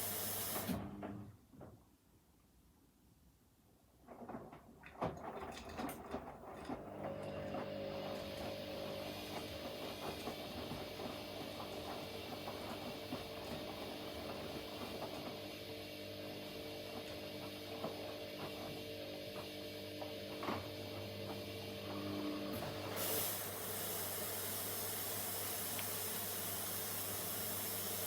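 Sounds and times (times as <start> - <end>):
washing machine motor hum: 0.0 - 1.1, 5.3 - 28.0.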